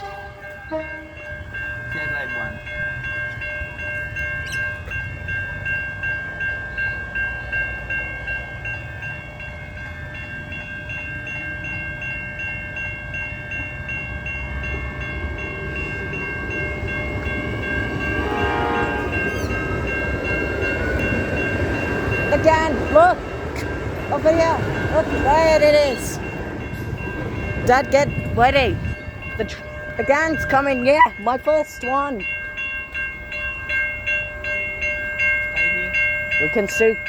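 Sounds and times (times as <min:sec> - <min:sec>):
level crossing bells ringing: 0:00.0 - 0:37.0
train rumbling: 0:00.0 - 0:37.0.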